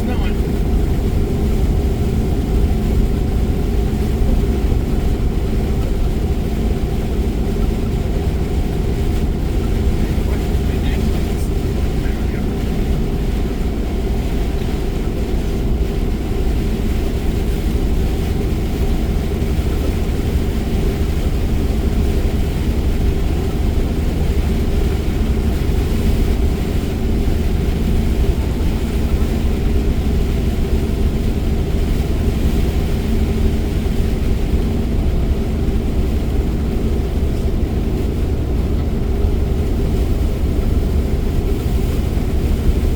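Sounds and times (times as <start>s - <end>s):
road and engine noise inside car: 0.0s - 42.9s.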